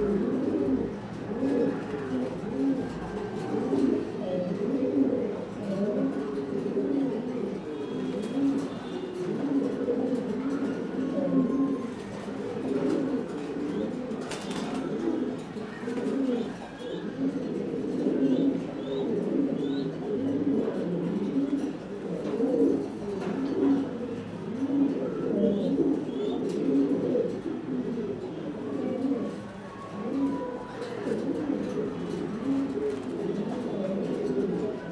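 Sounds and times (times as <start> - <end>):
pigeons cooing: 0.0 - 34.9.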